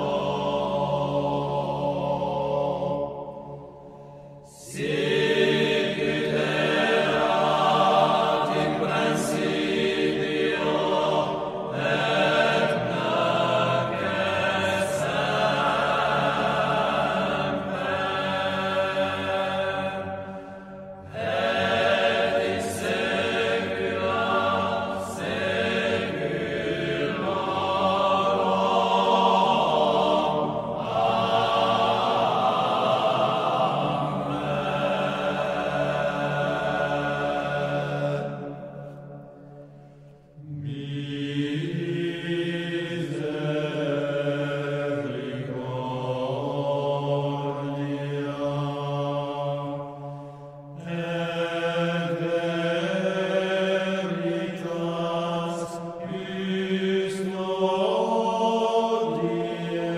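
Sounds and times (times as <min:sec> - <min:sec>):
choir chanting: 0:00.0 - 0:59.9.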